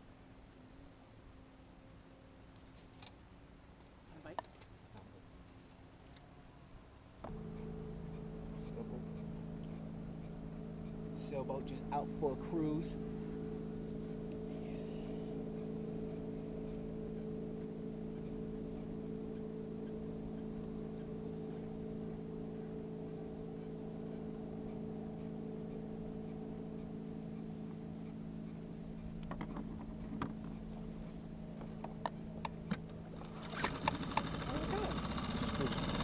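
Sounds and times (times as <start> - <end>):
boat motor humming: 0.0 - 36.0.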